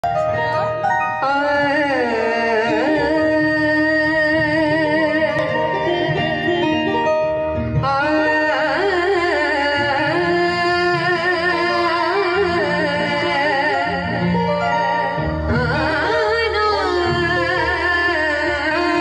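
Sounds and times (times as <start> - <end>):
held instrumental notes: 0.0 - 19.0
woman singing into a microphone: 0.2 - 6.9, 7.6 - 19.0.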